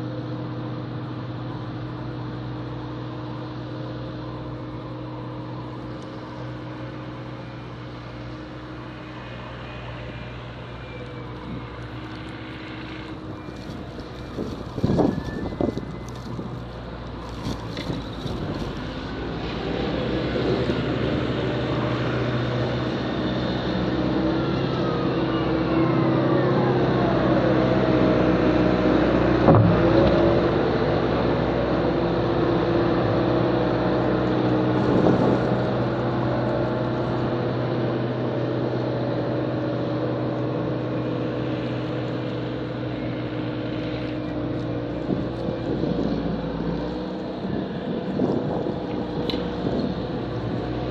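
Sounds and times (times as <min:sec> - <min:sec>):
vehicle engine running under load: 0:00.0 - 0:50.9.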